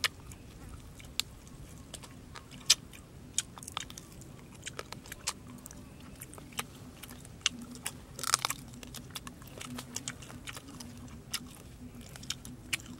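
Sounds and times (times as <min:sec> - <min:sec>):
chewing and crunching bones: 0:00.0 - 0:12.9.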